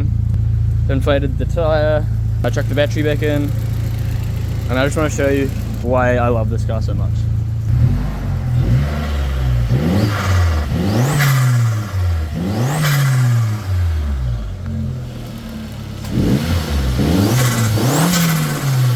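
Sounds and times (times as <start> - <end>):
car engine revving and idling: 0.0 - 18.9.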